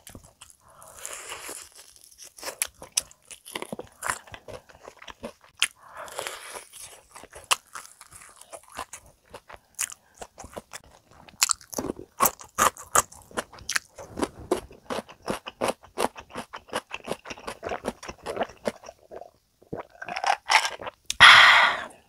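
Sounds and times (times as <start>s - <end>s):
crunchy chewing of fried chicken: 0.0s - 21.1s.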